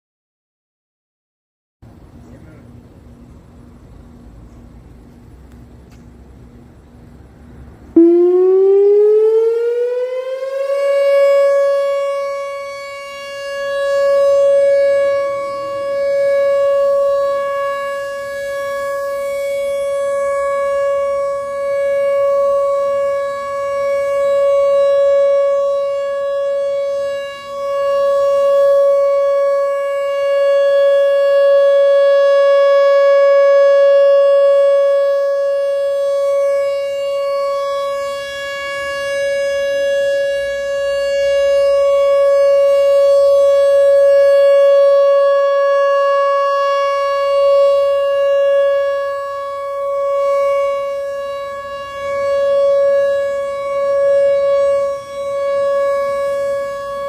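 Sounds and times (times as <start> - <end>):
electronic warning siren: 7.9 - 57.0.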